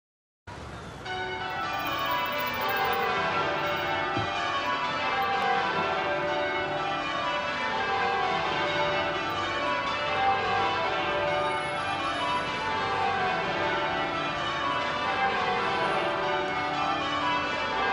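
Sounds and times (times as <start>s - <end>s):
church bells change ringing: 1.0s - 17.9s.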